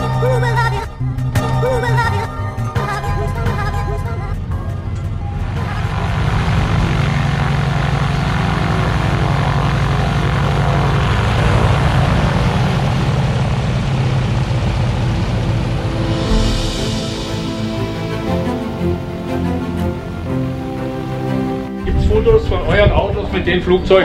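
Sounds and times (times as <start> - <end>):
propeller aircraft engine drone: 0.0 - 24.0.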